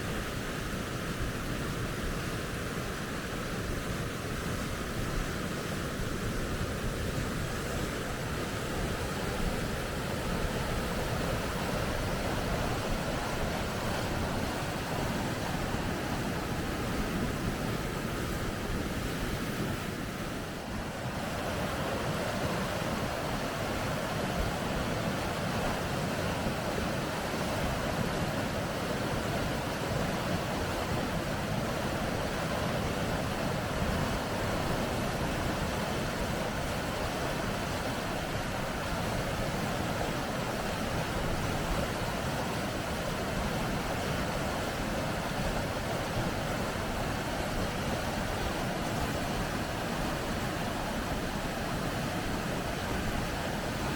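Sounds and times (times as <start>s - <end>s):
water rushing over rocks: 0.0s - 53.9s.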